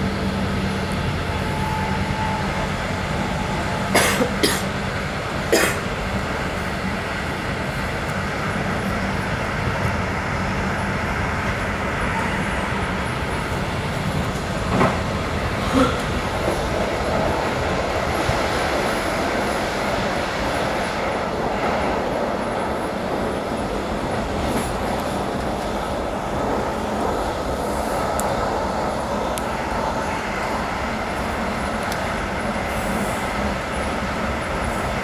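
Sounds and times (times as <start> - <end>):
train rolling rumble: 0.0 - 35.0.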